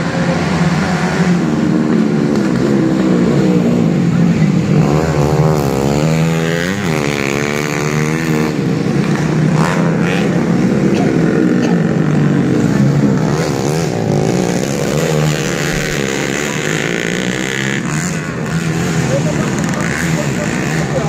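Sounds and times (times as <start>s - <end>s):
motorcycle engines racing: 0.0s - 21.0s
motorcycle revving past: 0.0s - 21.0s.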